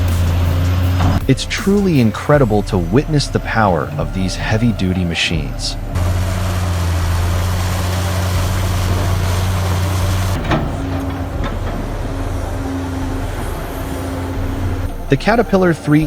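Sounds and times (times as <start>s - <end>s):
diesel engine humming: 0.0s - 16.0s
quieter engine running: 0.0s - 16.0s.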